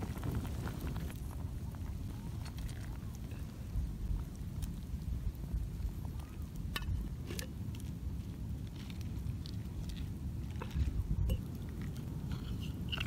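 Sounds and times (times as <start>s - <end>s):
campfire crackling and popping: 0.0s - 13.0s
wind rumble on microphone: 0.0s - 13.0s.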